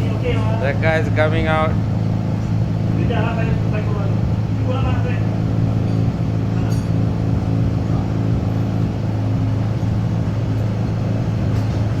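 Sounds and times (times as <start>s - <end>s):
rotary engine idling: 0.0s - 12.0s.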